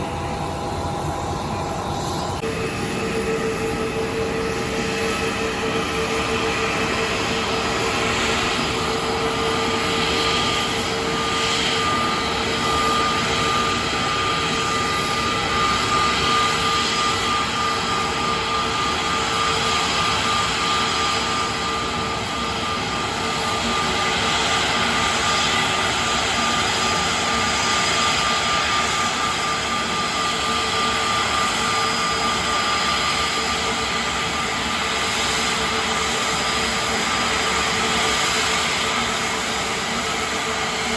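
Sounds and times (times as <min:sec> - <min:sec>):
jet engines rushing and whining: 0:00.0 - 0:40.9.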